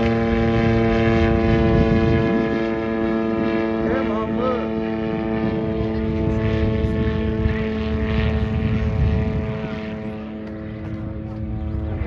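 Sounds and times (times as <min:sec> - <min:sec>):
propeller airplane engine running: 0:00.0 - 0:12.0.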